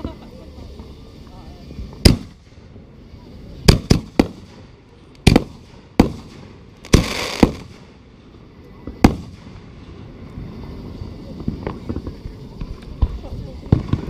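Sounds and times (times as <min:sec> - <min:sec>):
fireworks bursting: 0:00.0 - 0:14.0
hissing crackle: 0:00.0 - 0:14.0.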